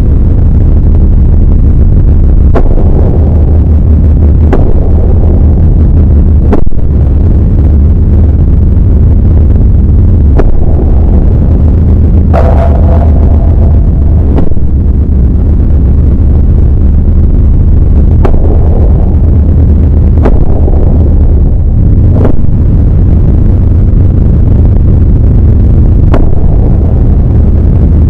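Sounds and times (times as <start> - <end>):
distorted deep rumble: 0.0 - 28.0.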